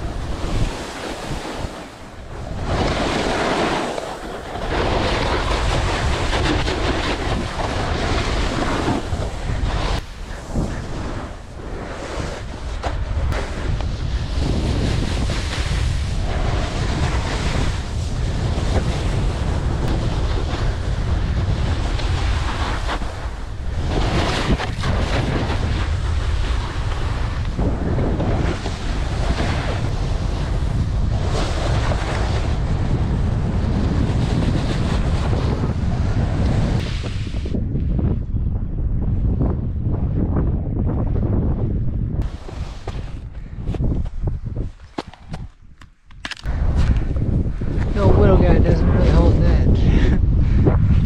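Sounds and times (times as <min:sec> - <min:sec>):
snowboard scraping over snow: 0:00.0 - 0:38.2, 0:40.9 - 0:45.5, 0:46.5 - 0:51.0
wind on microphone: 0:00.0 - 0:51.0.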